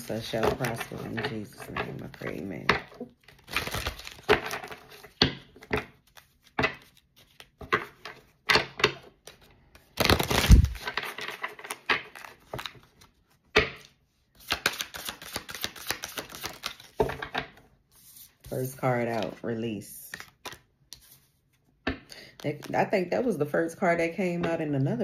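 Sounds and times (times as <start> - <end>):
cards shuffling: 0.1 - 21.6.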